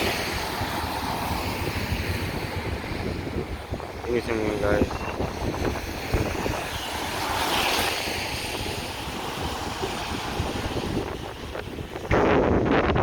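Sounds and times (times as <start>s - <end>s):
traffic hissing on wet road: 0.0s - 12.2s
wind buffeting microphone: 0.0s - 13.0s.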